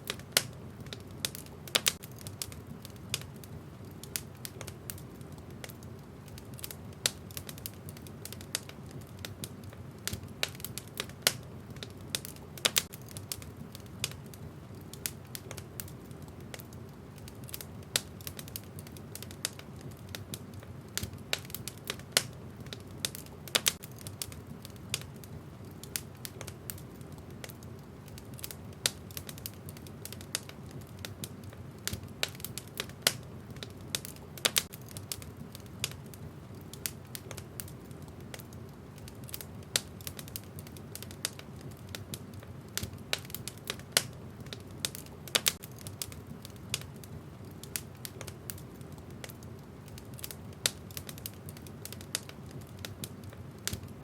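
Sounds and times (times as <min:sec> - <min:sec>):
burning logs popping and snapping: 0:00.0 - 0:54.0
fire low rumble: 0:00.0 - 0:54.0.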